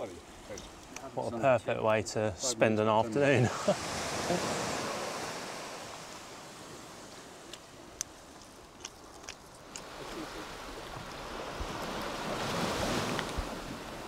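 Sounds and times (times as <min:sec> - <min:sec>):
surf washing on shore: 0:02.6 - 0:14.0.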